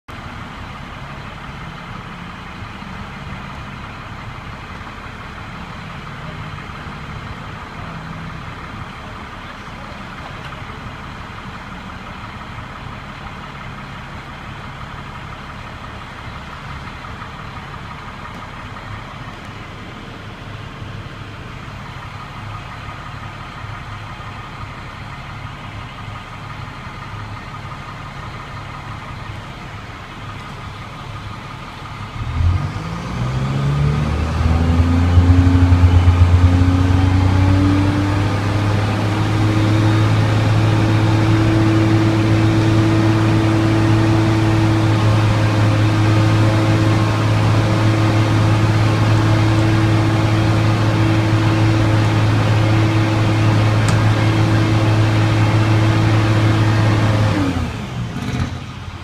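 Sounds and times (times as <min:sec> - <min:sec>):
heavy vehicle engine idling: 0:00.1 - 0:59.0.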